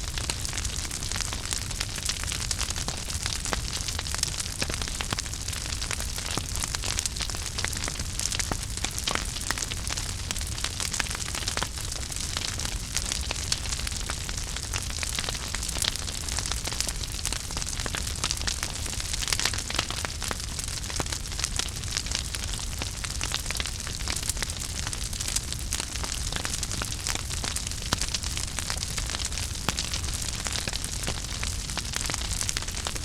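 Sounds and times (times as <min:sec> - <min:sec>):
fire crackling and popping: 0:00.0 - 0:33.0
fire hissing and rumbling: 0:00.0 - 0:33.0.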